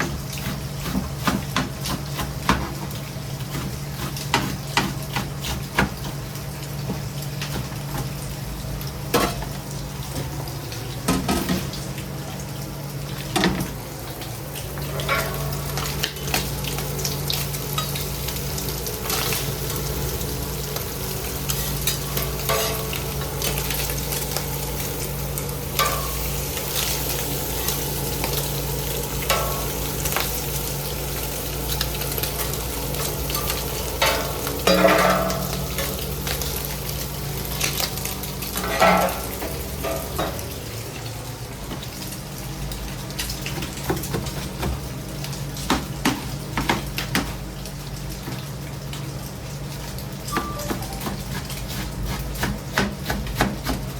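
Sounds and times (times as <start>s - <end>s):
food sizzling: 0.0s - 53.9s.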